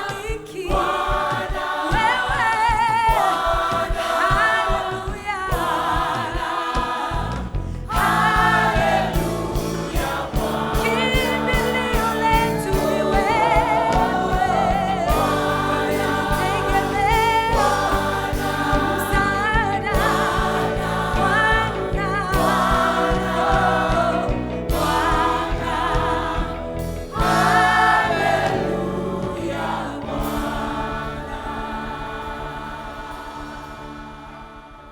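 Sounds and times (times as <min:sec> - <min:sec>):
instrumental accompaniment with beat: 0:00.0 - 0:34.1
gospel choir singing: 0:00.0 - 0:34.9.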